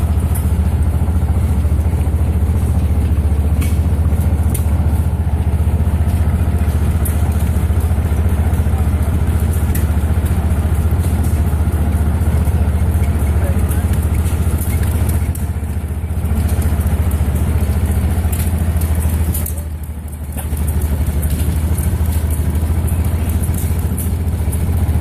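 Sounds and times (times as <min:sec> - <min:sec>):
golf cart engine running: 0:00.0 - 0:25.0
light clicks and rattles: 0:00.1 - 0:25.0.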